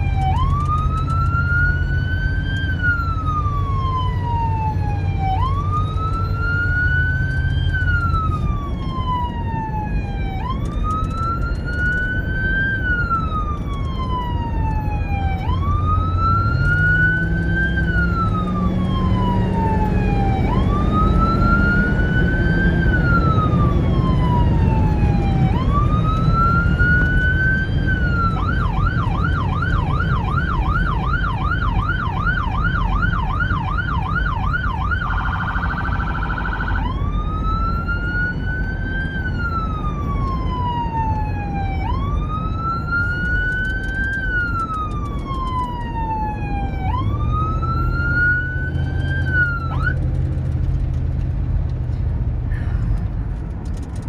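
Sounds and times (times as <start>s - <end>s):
police siren: 0.0s - 51.6s
car engine and road noise: 0.0s - 54.0s.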